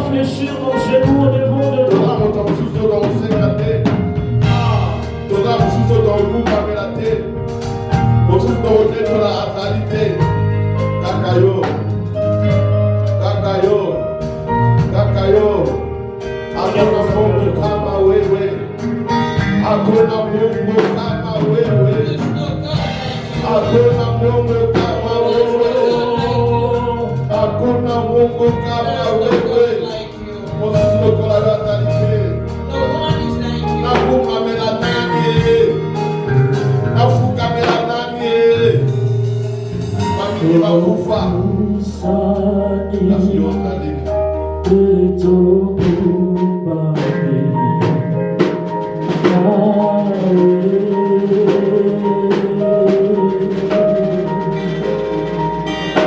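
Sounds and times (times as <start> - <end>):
live gospel band with singing: 0.0 - 56.0.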